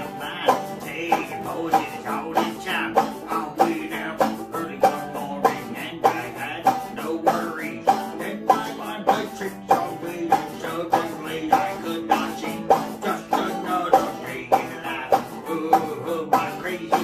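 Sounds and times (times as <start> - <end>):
banjo and guitar playing: 0.0 - 17.0.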